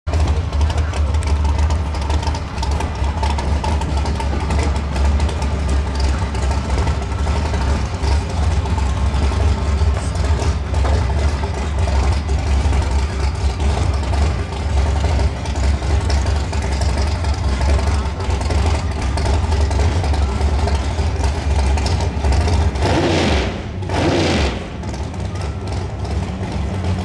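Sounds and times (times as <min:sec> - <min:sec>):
cars idling in distance: 0:00.1 - 0:27.0
heavy low rumble: 0:00.1 - 0:27.0.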